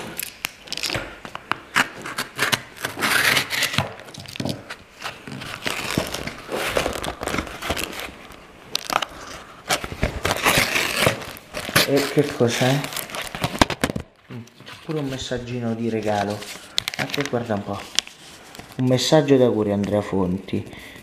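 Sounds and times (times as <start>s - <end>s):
cardboard tearing and crinkling: 0.0s - 18.9s.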